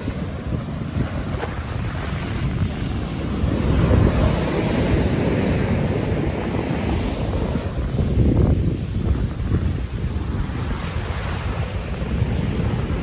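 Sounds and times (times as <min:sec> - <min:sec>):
water and waves rushing: 0:00.0 - 0:13.0
wind buffeting microphone: 0:00.0 - 0:13.0.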